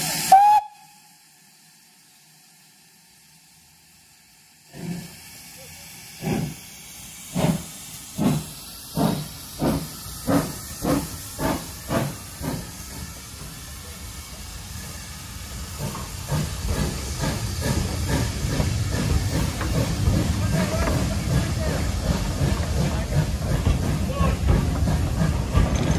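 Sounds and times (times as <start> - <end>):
steam locomotive chuffing: 0.0 - 25.9
train coaches rumbling and clattering: 4.7 - 25.9.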